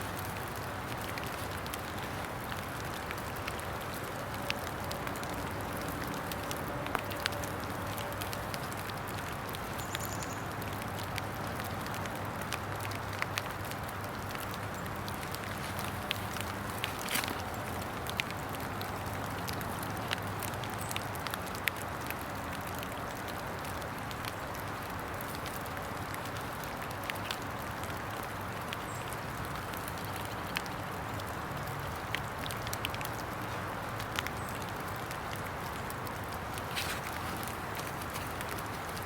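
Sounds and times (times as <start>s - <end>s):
rain hissing in woodland: 0.0s - 39.0s.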